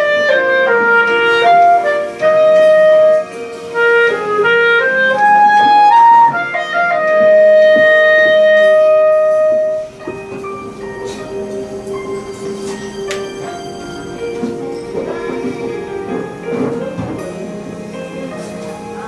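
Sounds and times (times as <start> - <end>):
backing music: 0.0 - 19.0
clarinet melody: 0.0 - 19.0.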